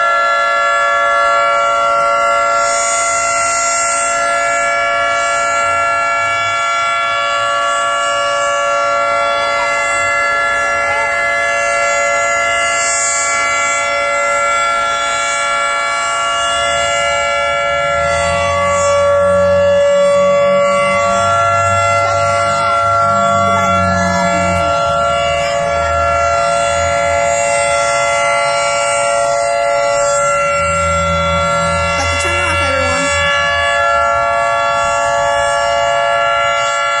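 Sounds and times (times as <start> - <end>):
three-tone siren chord: 0.0 - 37.0.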